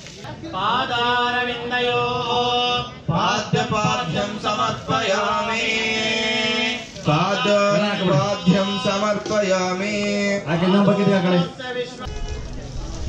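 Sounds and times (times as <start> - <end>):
man chanting: 0.6 - 12.3.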